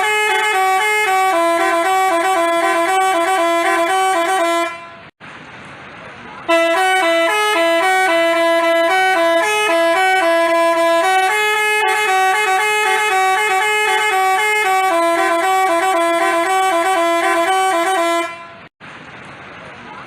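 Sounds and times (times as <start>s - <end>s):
multi-tone bus horn melody: 0.0s - 5.2s, 6.5s - 18.7s.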